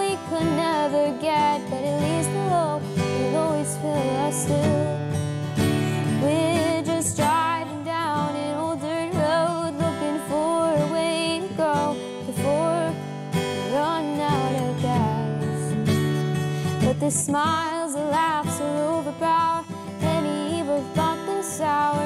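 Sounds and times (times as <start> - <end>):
girl singing with vibrato: 0.0 - 22.0
strummed acoustic guitar: 0.0 - 22.0.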